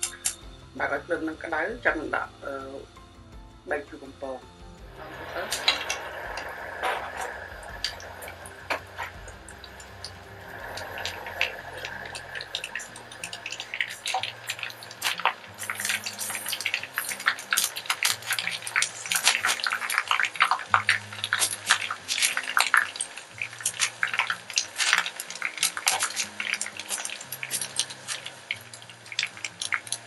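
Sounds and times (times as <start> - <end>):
pork rind sizzling in oil: 4.9 - 30.0.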